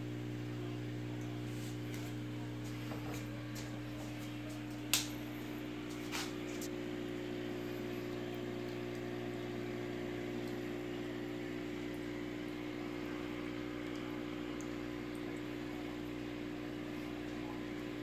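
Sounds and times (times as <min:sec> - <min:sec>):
aquarium pump humming: 0:00.0 - 0:18.0
soft bubbling hiss: 0:00.0 - 0:18.0.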